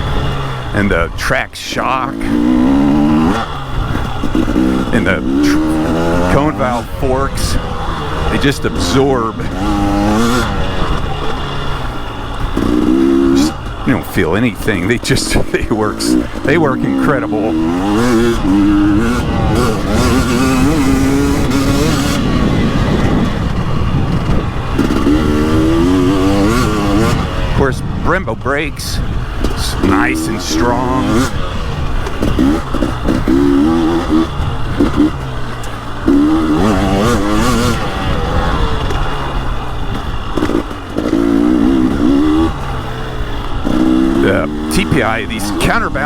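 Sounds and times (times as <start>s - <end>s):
two-stroke motorcycle engine: 0.0s - 46.0s.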